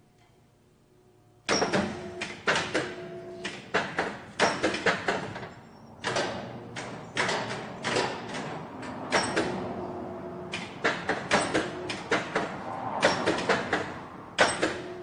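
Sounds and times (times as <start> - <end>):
metallic clanks and knocks: 1.5 - 9.8, 10.5 - 15.0.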